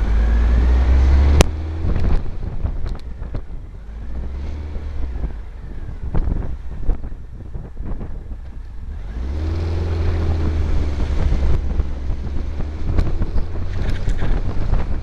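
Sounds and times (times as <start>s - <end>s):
buggy engine running: 0.0s - 15.0s
wind buffeting microphone: 0.0s - 15.0s.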